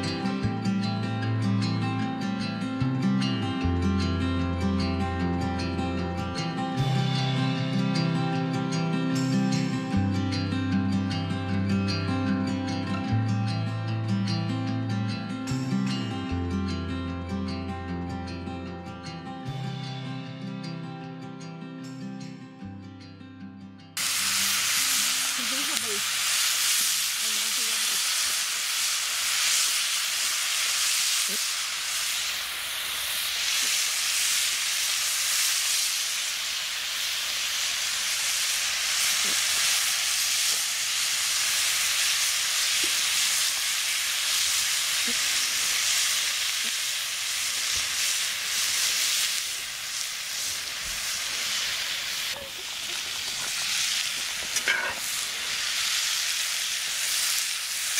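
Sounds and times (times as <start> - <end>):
food sizzling in a skillet: 0.0 - 13.6, 24.0 - 57.9.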